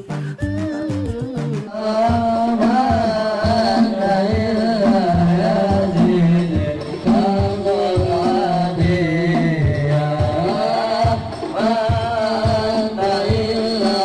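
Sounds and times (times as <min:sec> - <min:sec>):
person singing: 0:00.0 - 0:14.0
steady drum beat: 0:00.0 - 0:14.0.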